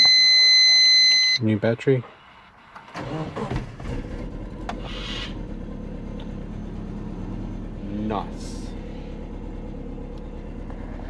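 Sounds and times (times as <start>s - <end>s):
car engine cranking and idling: 1.4s - 11.0s.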